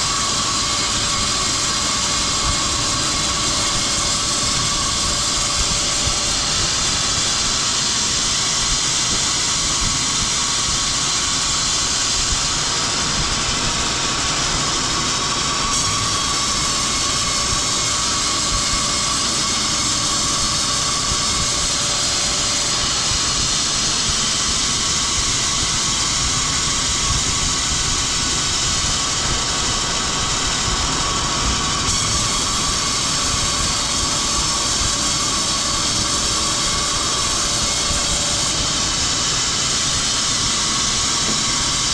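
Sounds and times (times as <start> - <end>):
woodworking machinery running: 0.0 - 41.9.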